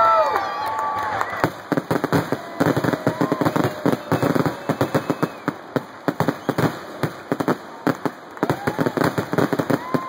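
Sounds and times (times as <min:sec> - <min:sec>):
fireworks crackling: 0:00.1 - 0:10.0
fireworks bursting with bangs: 0:01.2 - 0:10.0.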